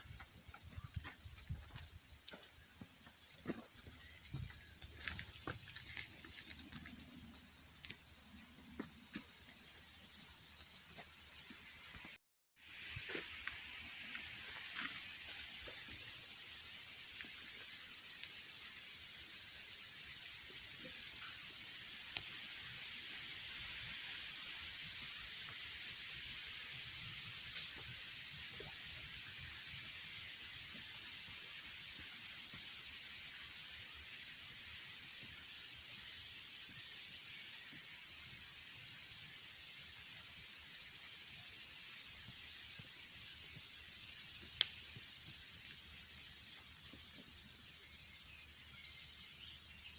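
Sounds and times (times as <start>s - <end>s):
high-pitched hiss: 0.0s - 49.9s.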